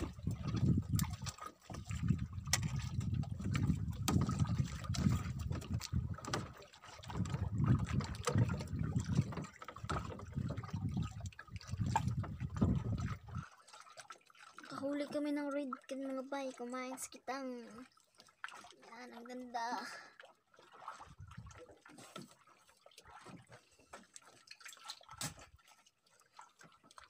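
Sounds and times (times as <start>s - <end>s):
water sloshing and splashing: 0.0s - 27.0s.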